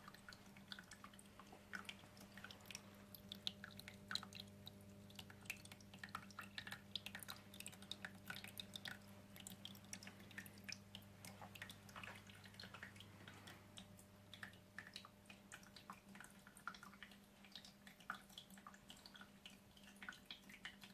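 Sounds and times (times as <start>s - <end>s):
low steady hum: 0.0s - 20.9s
water trickling and dripping: 0.0s - 20.9s.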